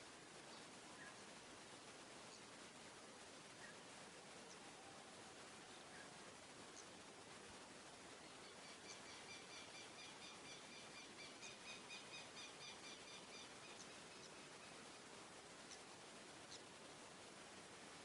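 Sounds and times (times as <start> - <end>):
faint ambient hiss: 0.0 - 18.0.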